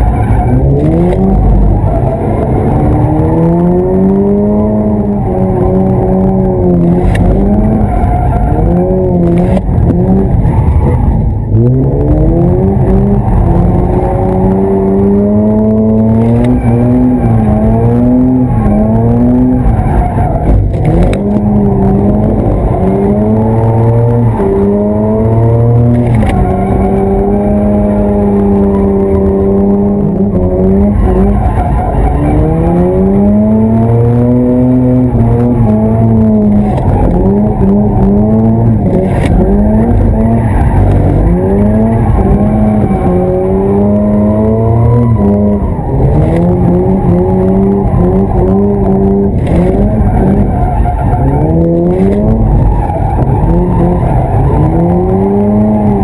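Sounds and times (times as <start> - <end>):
rotary engine revving hard: 0.0 - 56.0.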